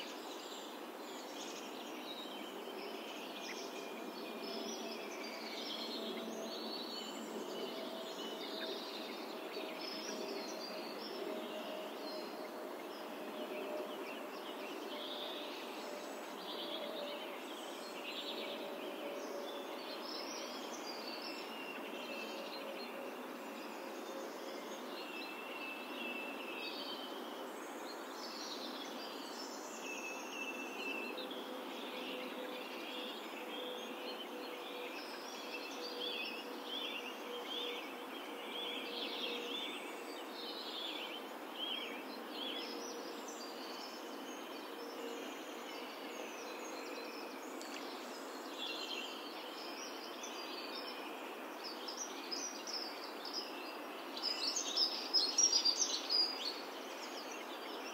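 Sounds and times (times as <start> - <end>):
background hiss: 0.0 - 57.9
songbirds chirping and trilling: 0.0 - 57.9.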